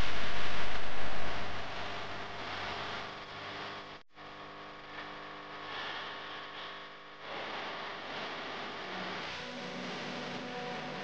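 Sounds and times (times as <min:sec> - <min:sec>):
faint steady tones: 0:00.0 - 0:11.0.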